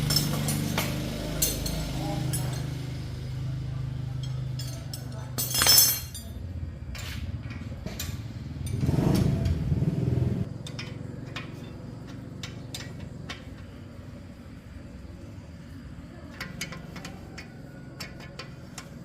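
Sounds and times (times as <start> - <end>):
engine running: 0.0 - 4.6, 6.4 - 19.0.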